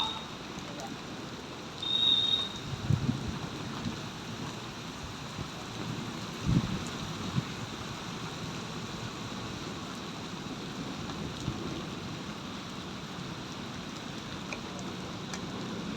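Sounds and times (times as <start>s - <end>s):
heavy rain pouring: 0.0s - 15.9s.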